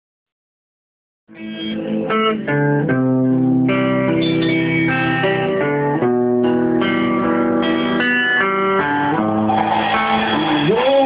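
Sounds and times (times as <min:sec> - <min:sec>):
electric guitar melody: 0:01.3 - 0:11.0.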